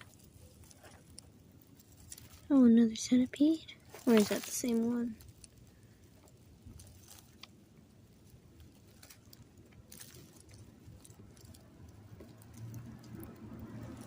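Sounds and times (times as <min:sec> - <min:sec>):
faint rustling and clicks: 0:00.0 - 0:14.0.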